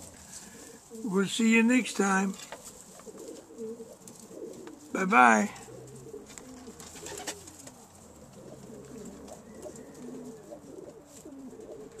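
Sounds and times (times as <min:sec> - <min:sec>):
pigeons cooing: 0:00.0 - 0:01.2, 0:02.5 - 0:12.0.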